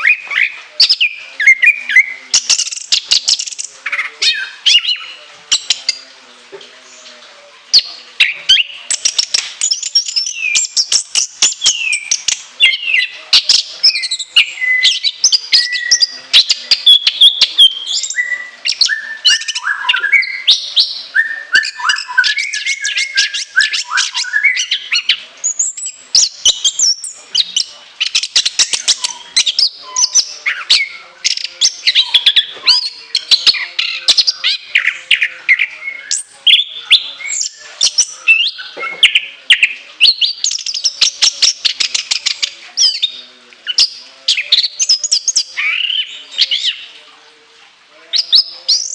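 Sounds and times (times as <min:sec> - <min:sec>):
thrush singing whistled song: 0:00.0 - 0:06.0, 0:07.7 - 0:47.0, 0:48.1 - 0:48.9.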